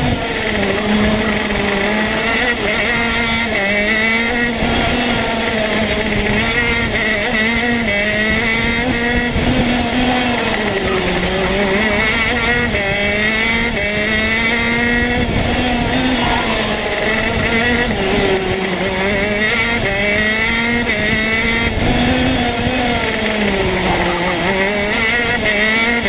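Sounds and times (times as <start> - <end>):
racing kart engine: 0.0 - 26.0.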